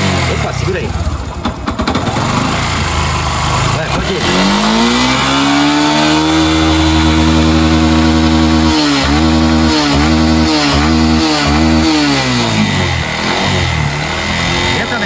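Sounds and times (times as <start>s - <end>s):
small motorcycle engine revving: 0.0s - 15.0s.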